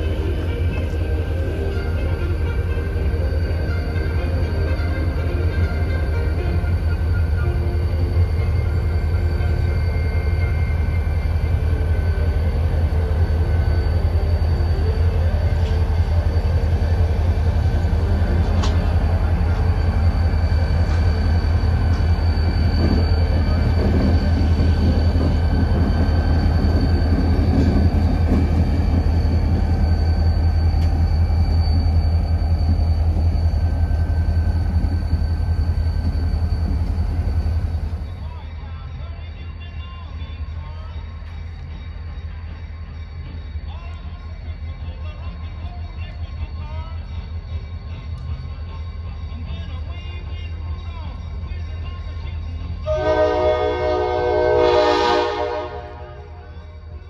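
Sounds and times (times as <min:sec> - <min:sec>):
diesel locomotive engine rumbling: 0:00.0 - 0:57.0.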